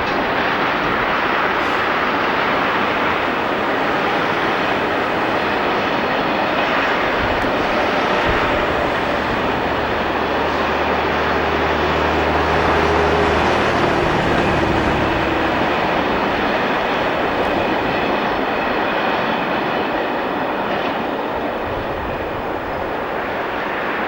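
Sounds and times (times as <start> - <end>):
steady rushing noise: 0.0 - 20.0
low engine hum: 0.0 - 20.1
diesel train engine running: 0.0 - 24.0.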